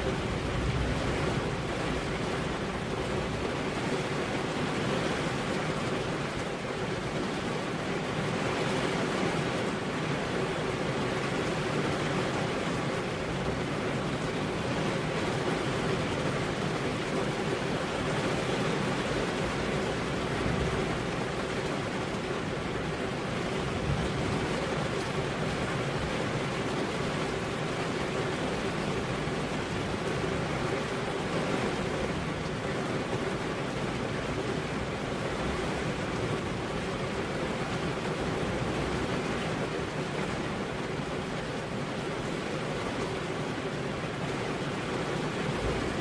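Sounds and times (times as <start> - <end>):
steady rain: 0.0 - 46.0
wind: 0.0 - 46.0.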